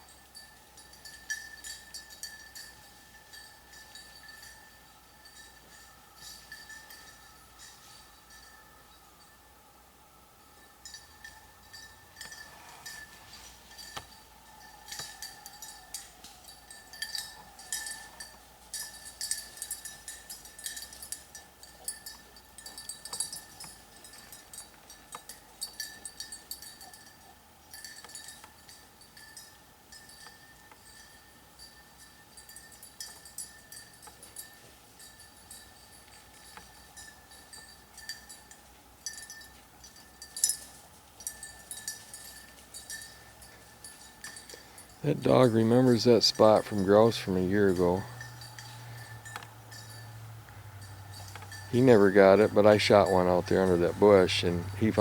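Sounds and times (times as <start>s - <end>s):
small metal bell jingling: 0.0s - 9.4s, 10.6s - 55.0s.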